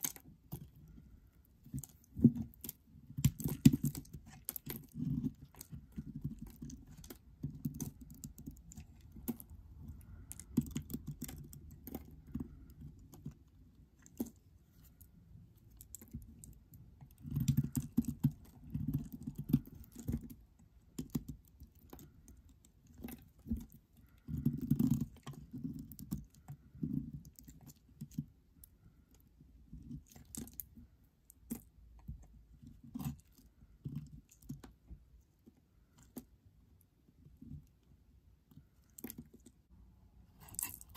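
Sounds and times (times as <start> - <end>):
knife cutting dry soap: 0.0 - 35.1.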